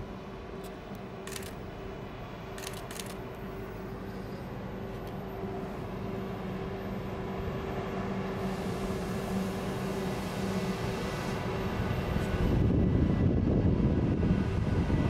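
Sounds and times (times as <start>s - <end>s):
train hum with held tone: 0.0s - 15.0s.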